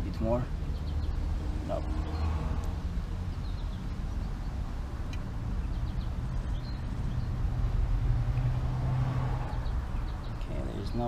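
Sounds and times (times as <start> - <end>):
vehicle traffic rumble: 0.0 - 11.0.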